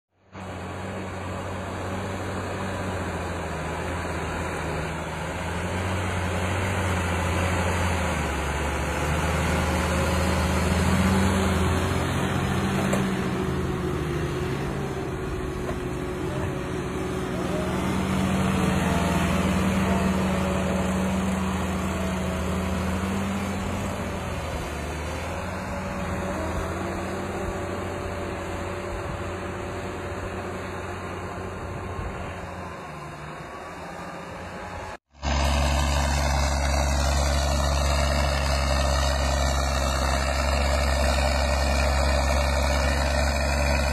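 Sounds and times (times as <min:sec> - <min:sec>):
tractor diesel engine under load: 0:00.1 - 0:43.9.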